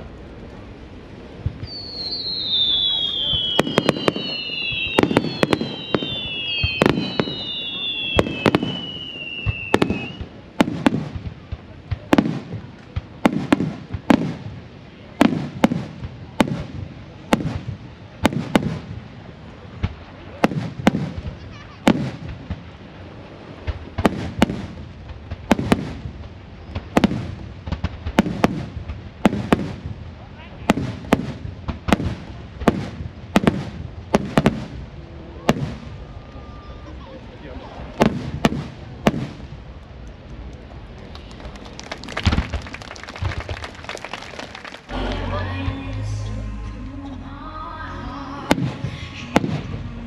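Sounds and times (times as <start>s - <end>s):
whistling fireworks: 1.3s - 39.9s, 40.9s - 45.0s, 48.4s - 50.0s.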